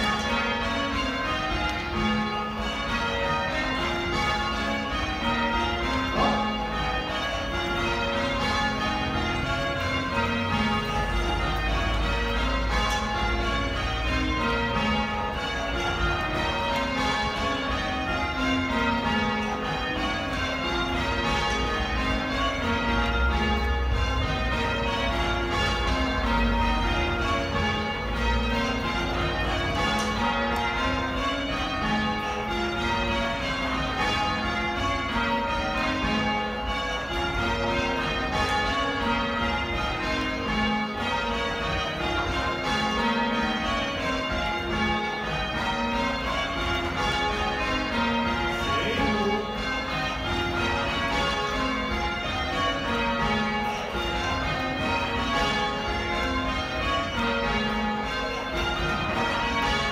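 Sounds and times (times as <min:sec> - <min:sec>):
church bells change ringing: 0:00.0 - 0:59.9.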